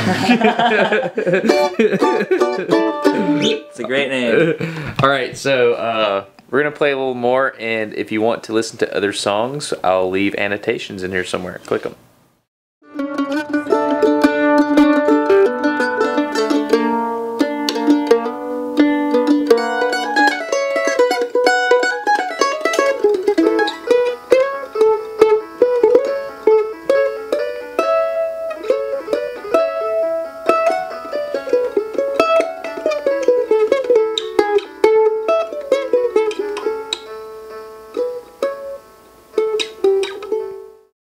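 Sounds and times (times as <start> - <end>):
mandolins playing a tune: 0.0 - 4.9, 12.8 - 40.9.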